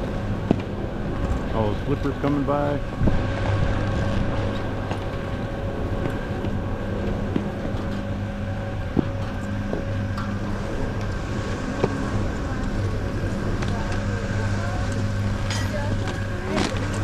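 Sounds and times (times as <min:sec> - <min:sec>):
low mechanical engine hum: 0:00.0 - 0:17.0.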